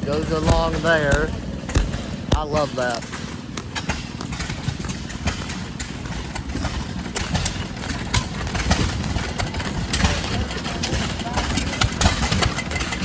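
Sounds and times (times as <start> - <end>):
small gas engine popping: 0.0 - 13.0.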